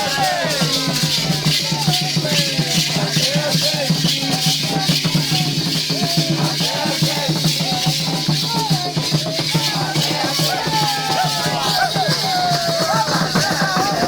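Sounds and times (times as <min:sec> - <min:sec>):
rhythmic drumming: 0:00.0 - 0:14.0
shaker rattling: 0:00.0 - 0:14.0
voices singing a chant: 0:00.0 - 0:14.0.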